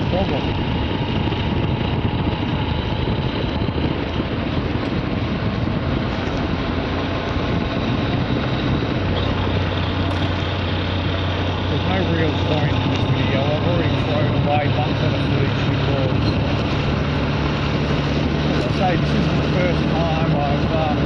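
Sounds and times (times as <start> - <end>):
low motor hum: 0.0 - 21.0
wind and road rush: 0.0 - 21.0.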